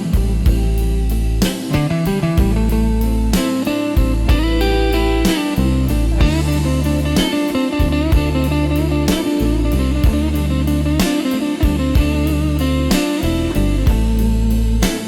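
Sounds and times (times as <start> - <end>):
bass line: 0.0 - 15.0
drum kit slow beat: 0.0 - 15.0
electric guitar playing blues: 0.0 - 15.0.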